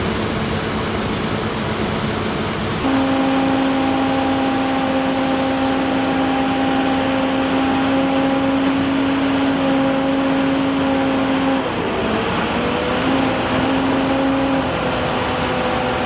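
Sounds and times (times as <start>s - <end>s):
steady machine drone: 0.0s - 16.0s.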